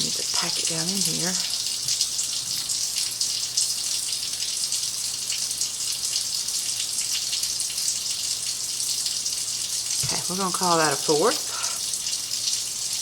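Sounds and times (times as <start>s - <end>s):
sink tap running: 0.0s - 13.0s.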